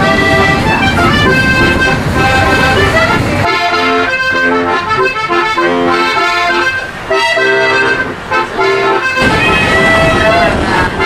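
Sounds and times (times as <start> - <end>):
button accordion playing chords: 0.0 - 11.0.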